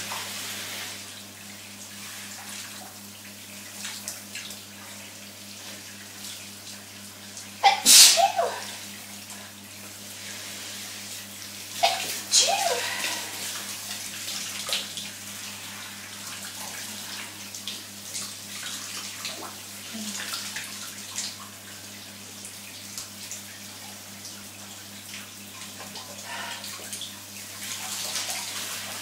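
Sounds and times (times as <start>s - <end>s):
shower water spraying: 0.0s - 3.0s, 3.6s - 24.1s, 25.2s - 29.0s.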